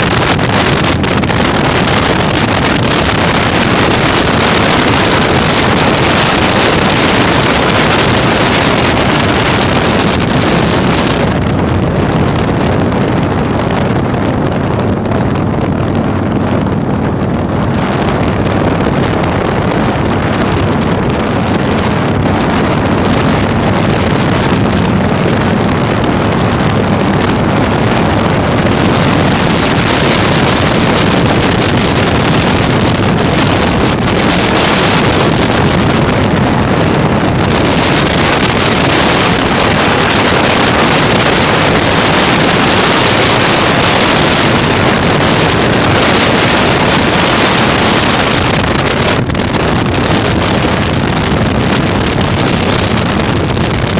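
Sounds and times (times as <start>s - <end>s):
motorcycle engine running: 0.0s - 53.9s
wind buffeting microphone: 0.0s - 53.9s.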